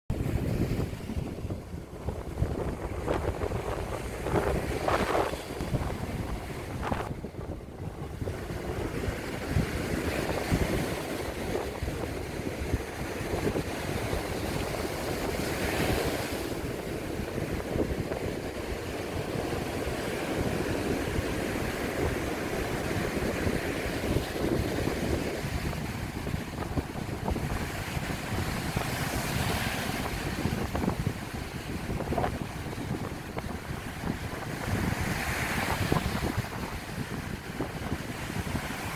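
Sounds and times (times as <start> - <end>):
ocean surf breaking: 0.1 - 38.9
wind buffeting microphone: 0.1 - 38.9.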